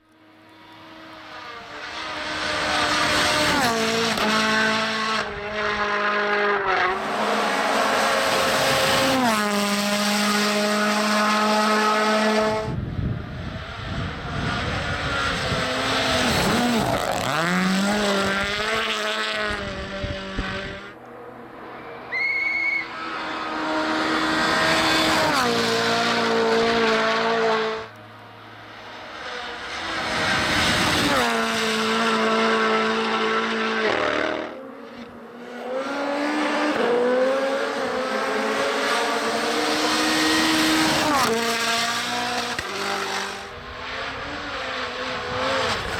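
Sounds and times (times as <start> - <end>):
rally cars passing at speed: 0.0 - 45.9.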